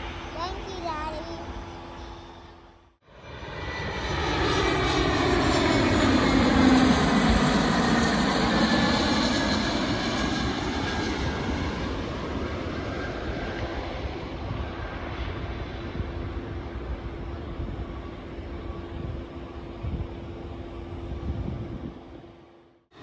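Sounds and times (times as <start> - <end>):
jet passing overhead: 0.0 - 23.0.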